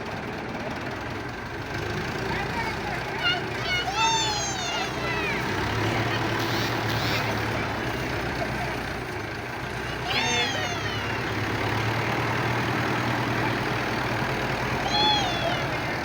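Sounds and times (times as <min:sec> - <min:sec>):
diesel tractor engines under load: 0:00.0 - 0:16.0
high voices shouting: 0:02.4 - 0:09.0, 0:09.6 - 0:16.0.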